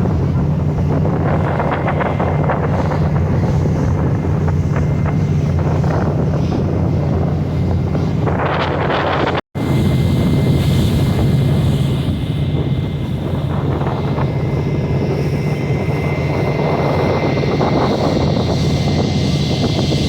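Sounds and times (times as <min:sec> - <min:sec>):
boat engine drone: 0:00.0 - 0:20.0
faint steady whine: 0:00.0 - 0:20.0.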